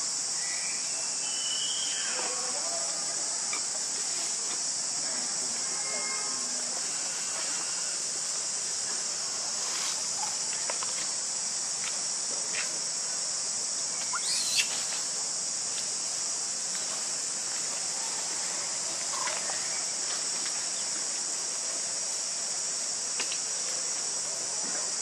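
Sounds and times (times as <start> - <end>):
insect chorus droning: 0.0 - 25.0.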